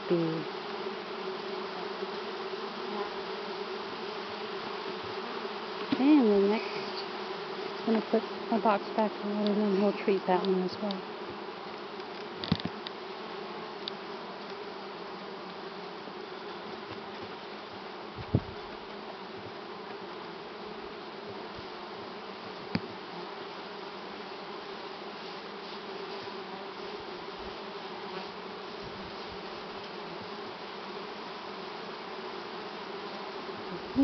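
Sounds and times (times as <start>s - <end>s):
honeybees buzzing: 0.0s - 34.0s.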